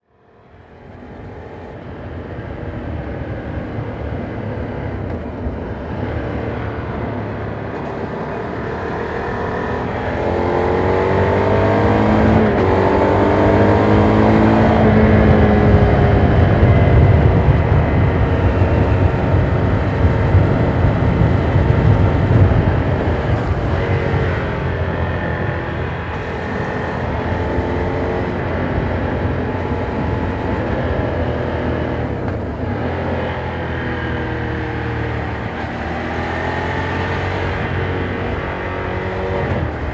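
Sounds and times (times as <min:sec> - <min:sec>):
wind rumble: 0:00.4 - 0:39.9
motorcycle engine revving: 0:01.4 - 0:39.9.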